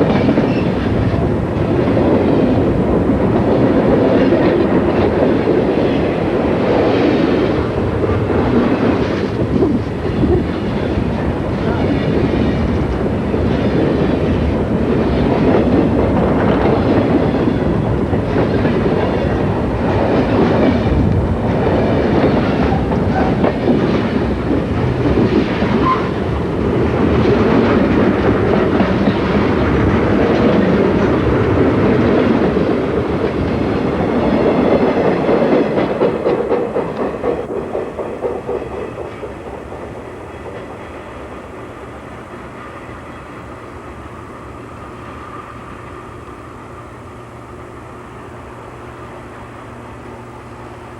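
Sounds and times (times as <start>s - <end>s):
freight train wheels clicking on rails: 0.0s - 50.9s.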